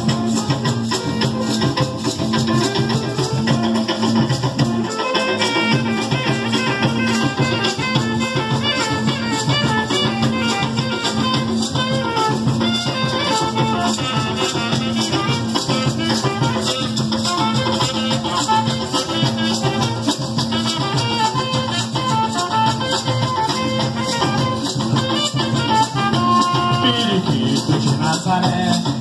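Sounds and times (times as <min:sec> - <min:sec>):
band playing live: 0:00.0 - 0:29.0
fast percussion rhythm: 0:00.0 - 0:29.0.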